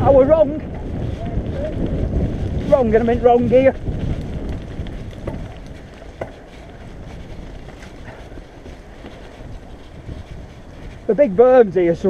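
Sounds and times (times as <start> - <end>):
bike tyres rumbling over stones: 0.0 - 12.0
wind buffeting microphone: 0.0 - 12.0.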